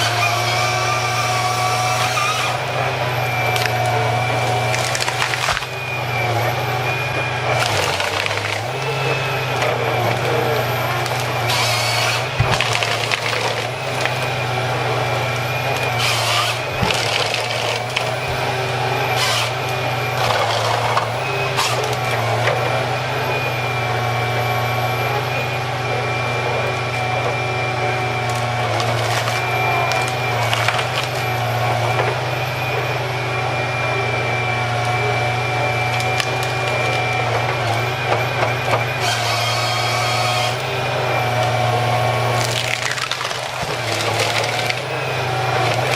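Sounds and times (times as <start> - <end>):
wood cracking and splintering: 0.0 - 22.8, 26.3 - 32.8, 34.0 - 45.9
tree-cutting machinery whining: 0.0 - 45.9.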